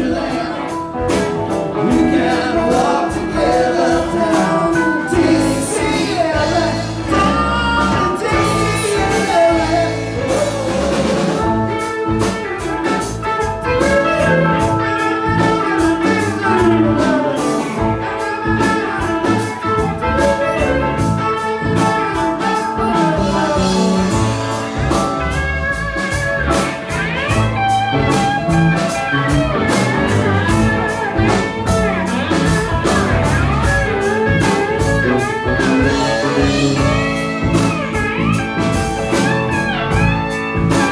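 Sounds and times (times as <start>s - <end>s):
drum kit beat: 0.0s - 40.9s
electric guitars: 0.0s - 40.9s
hammond organ: 0.0s - 40.9s.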